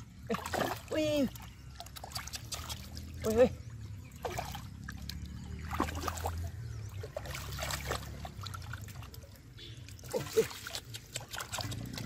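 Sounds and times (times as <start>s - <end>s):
pond water splashing: 0.0s - 12.0s.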